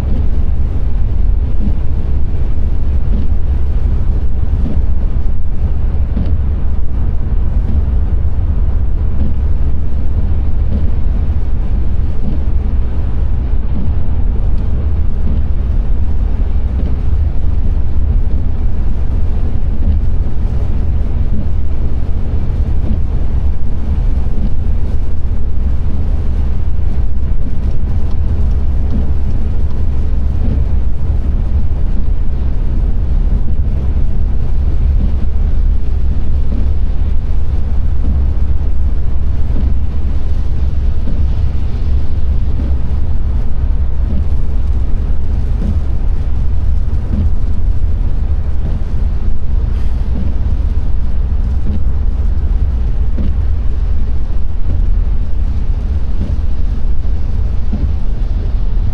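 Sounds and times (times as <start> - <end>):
car engine rumble: 0.0 - 58.9
tyre noise on road: 0.0 - 58.9.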